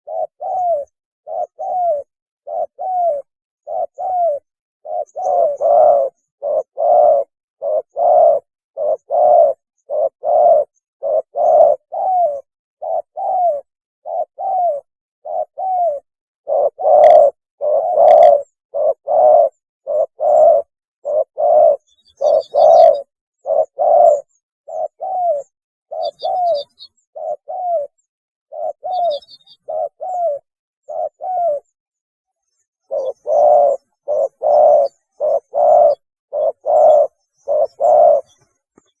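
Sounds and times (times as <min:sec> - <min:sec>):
dove cooing: 0:00.0 - 0:31.8, 0:32.5 - 0:39.0
faint high bird chirps: 0:00.0 - 0:39.0.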